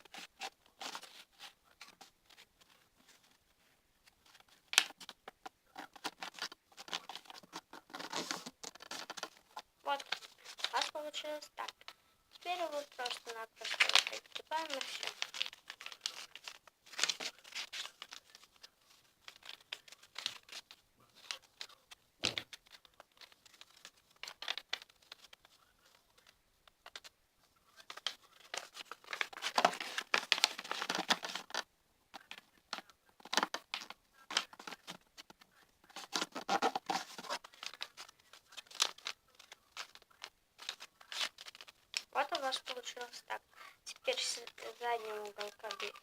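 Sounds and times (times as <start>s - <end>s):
paper crinkling and rustling: 0.0s - 46.0s.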